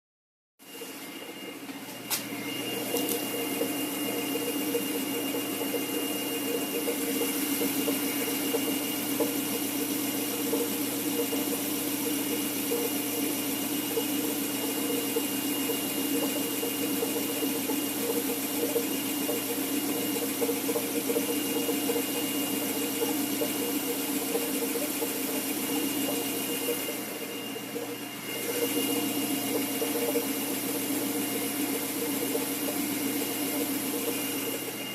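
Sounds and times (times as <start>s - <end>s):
noise from beneath engine: 2.6s - 34.9s.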